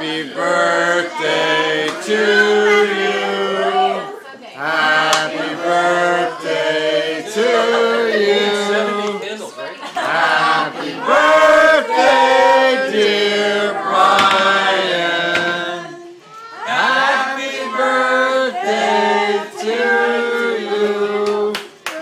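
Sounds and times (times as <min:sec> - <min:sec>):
group of people singing: 0:00.0 - 0:22.0.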